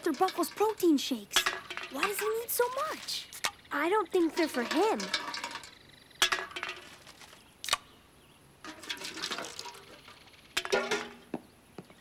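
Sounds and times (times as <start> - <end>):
metal cans clinking and knocking: 0.0 - 7.4, 8.6 - 11.3.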